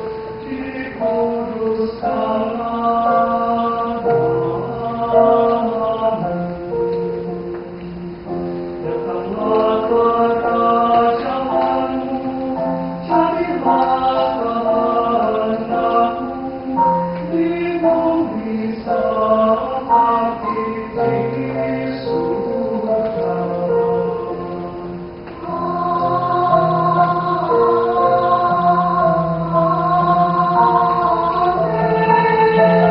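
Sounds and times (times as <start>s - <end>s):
choir singing a hymn: 0.0s - 32.9s.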